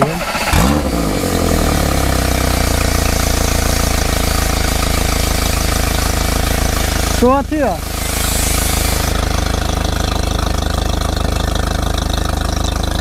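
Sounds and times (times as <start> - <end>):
cooling water pumping: 0.0 - 13.0
outboard motor starting and idling: 0.0 - 13.0.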